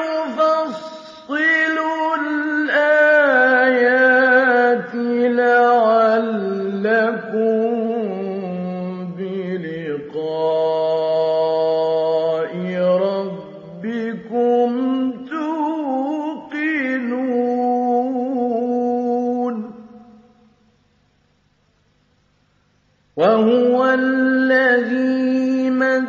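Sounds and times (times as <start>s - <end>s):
man chanting melodically: 0.0s - 20.3s, 23.2s - 26.0s.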